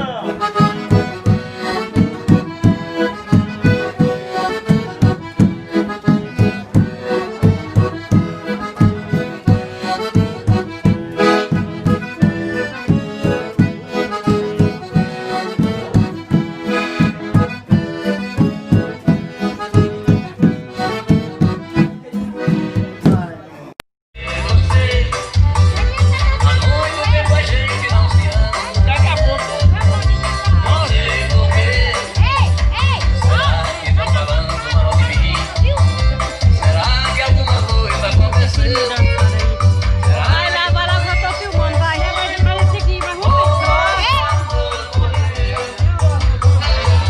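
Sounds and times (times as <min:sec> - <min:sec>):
accordion-led dance music: 0:00.0 - 0:47.0.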